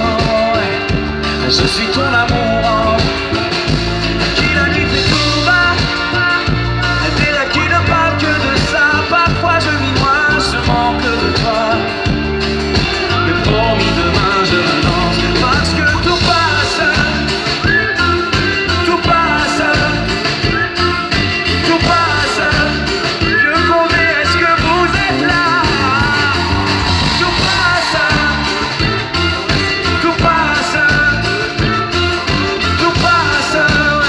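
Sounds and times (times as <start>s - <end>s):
pop-rock band playing live: 0.0s - 34.0s
steady drum beat: 0.0s - 34.0s.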